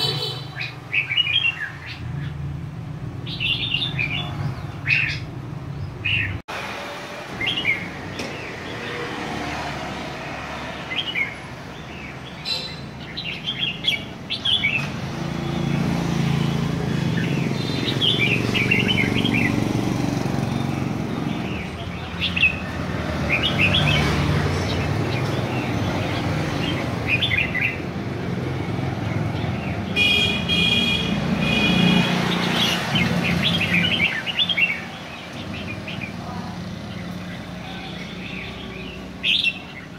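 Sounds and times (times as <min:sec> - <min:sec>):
birds chirping: 0:00.0 - 0:39.9
low traffic rumble: 0:00.0 - 0:39.9.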